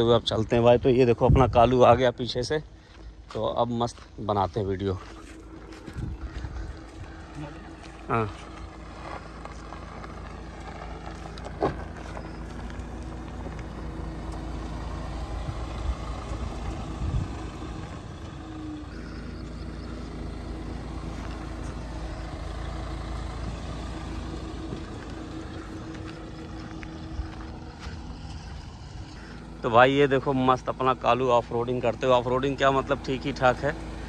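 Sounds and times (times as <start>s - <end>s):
vehicle engine at low revs: 0.0s - 34.0s.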